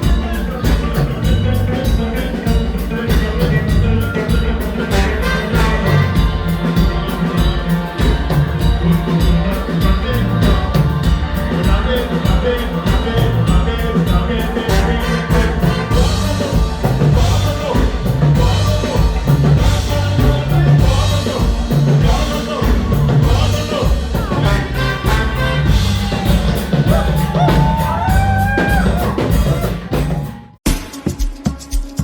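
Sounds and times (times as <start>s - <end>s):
high melody line: 0.0s - 31.6s
funk band bass and drum groove: 0.0s - 32.0s.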